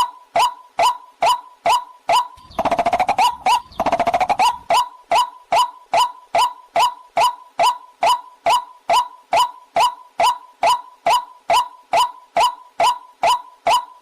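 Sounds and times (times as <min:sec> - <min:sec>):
recorded waterhen calls: 0:00.0 - 0:13.9.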